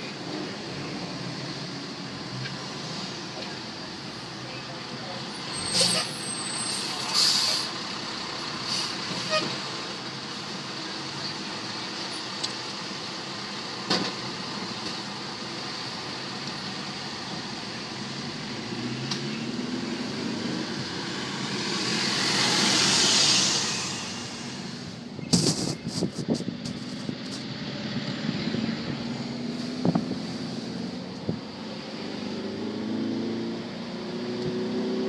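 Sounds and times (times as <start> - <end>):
passing vehicles hum: 0.0 - 35.0.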